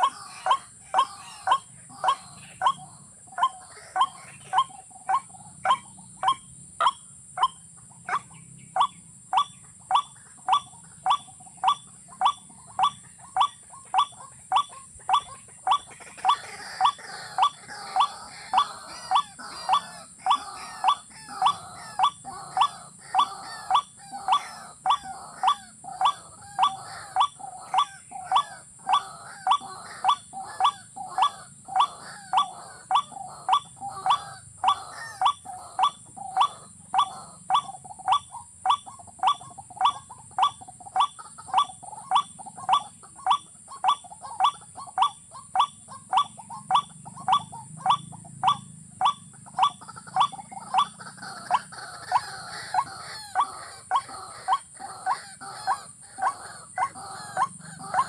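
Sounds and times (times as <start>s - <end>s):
rail bird calling: 0.0s - 58.0s.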